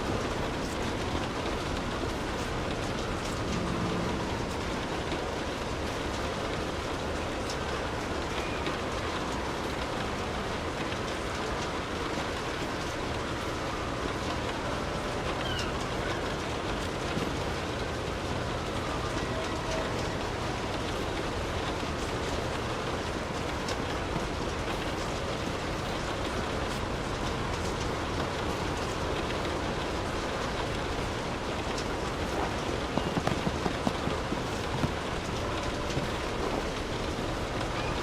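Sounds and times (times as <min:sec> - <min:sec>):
raindrops ticking: 0:00.0 - 0:38.0
steady rain hiss: 0:00.0 - 0:38.0.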